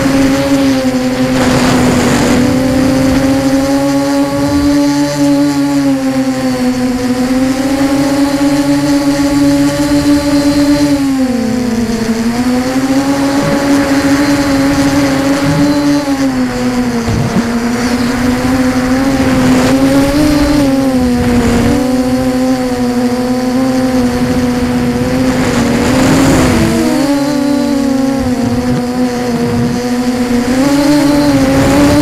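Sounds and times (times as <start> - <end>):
drone motors humming: 0.0 - 32.0
wind gusts over microphone: 0.0 - 32.0.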